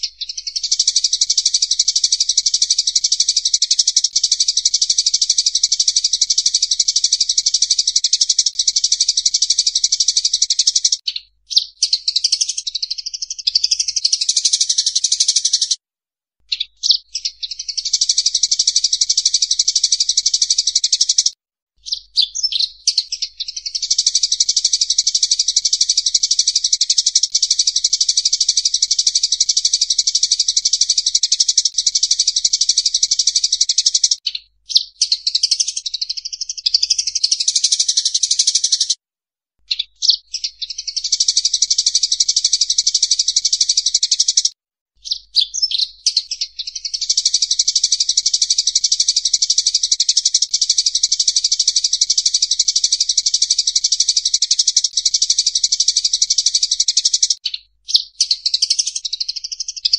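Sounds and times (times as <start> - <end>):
sparrows chattering chirps: 0.0 - 15.8, 16.5 - 39.0, 39.7 - 59.9.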